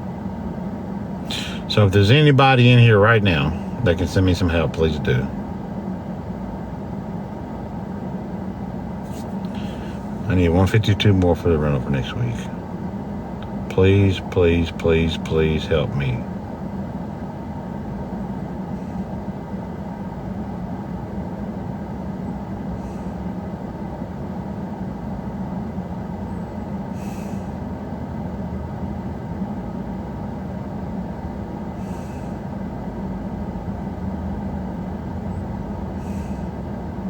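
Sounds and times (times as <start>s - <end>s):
vehicle cabin rumble: 0.0s - 37.0s.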